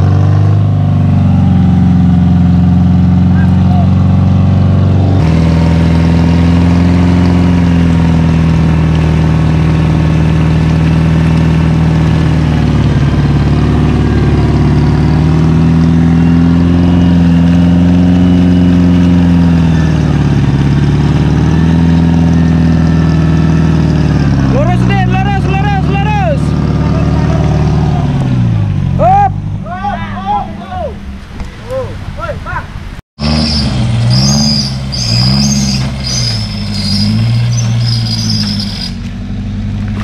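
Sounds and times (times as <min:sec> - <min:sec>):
off-road engine revving: 0:00.0 - 0:40.0.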